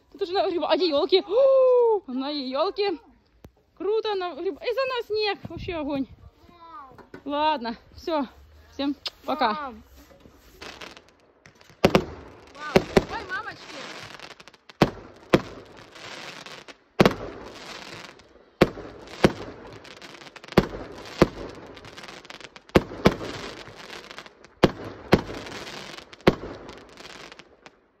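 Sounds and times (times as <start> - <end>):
steady crackling hiss: 0.0 - 28.0.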